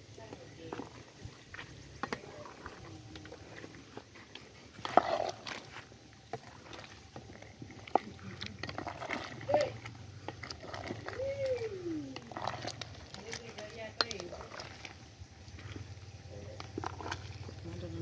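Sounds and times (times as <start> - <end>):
wooden stick scraping metal pot: 0.2 - 18.0.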